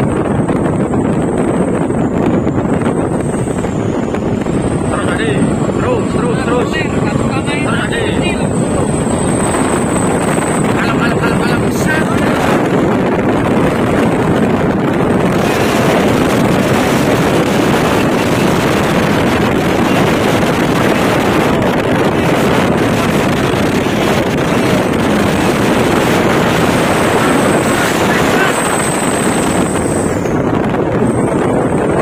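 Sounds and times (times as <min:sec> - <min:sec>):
truck driving at speed: 0:00.0 - 0:32.0
wind on microphone: 0:00.0 - 0:32.0.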